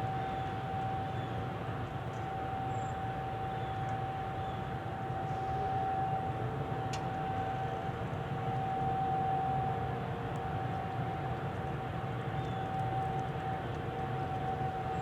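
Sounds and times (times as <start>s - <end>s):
distant warning sirens: 0.0s - 15.0s.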